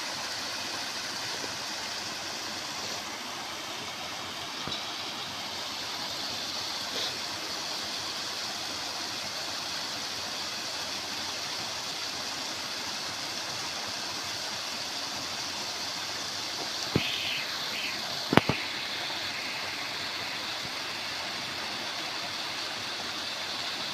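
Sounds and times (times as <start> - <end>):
stream water flowing: 0.0 - 23.9.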